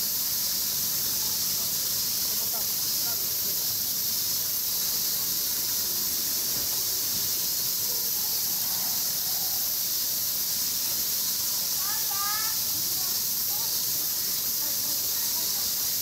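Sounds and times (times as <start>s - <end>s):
cicada chorus hissing: 0.0s - 16.0s
faint distant voices: 0.7s - 16.0s.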